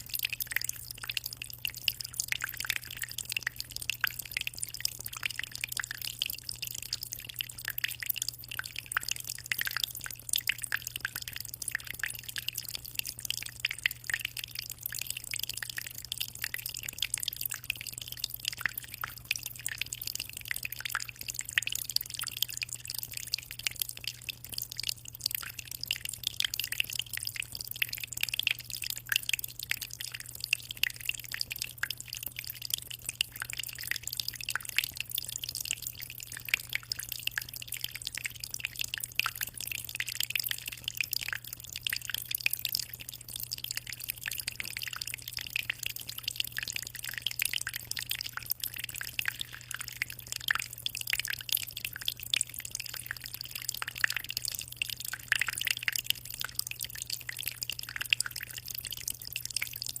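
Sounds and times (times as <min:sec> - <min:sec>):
aquarium water trickling: 0:00.0 - 1:00.0
low steady hum: 0:00.0 - 1:00.0.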